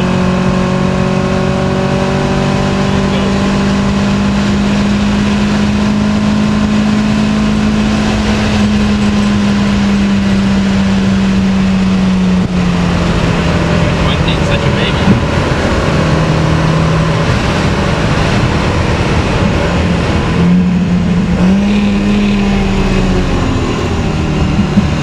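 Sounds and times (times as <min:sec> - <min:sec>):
car engine revving hard: 0:00.0 - 0:25.0
road and wind noise: 0:00.0 - 0:25.0.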